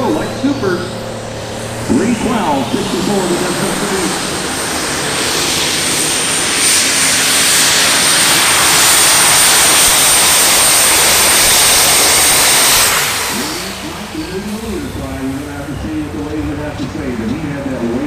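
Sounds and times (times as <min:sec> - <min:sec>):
tractor engine roaring: 0:00.0 - 0:18.0.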